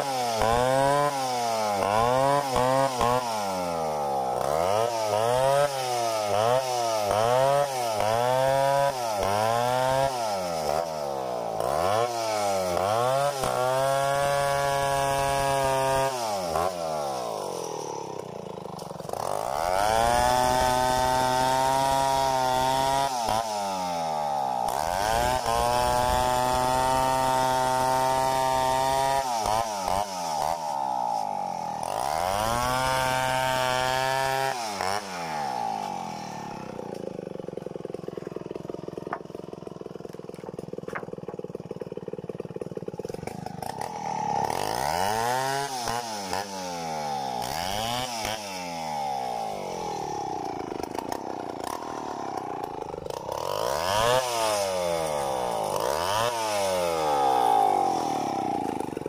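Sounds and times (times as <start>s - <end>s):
chainsaw cutting boards: 0.0s - 59.0s.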